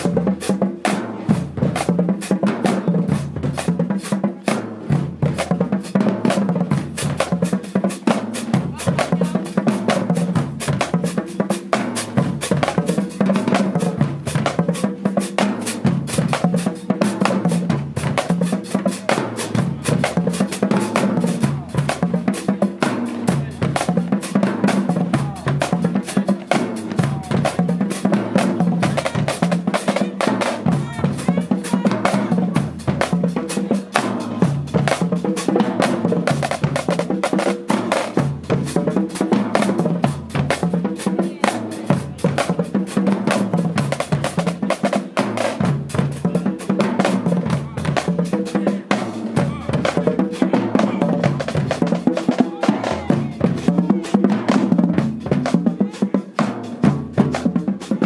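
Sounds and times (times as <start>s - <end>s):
pitched bass drums: 0.0s - 58.0s.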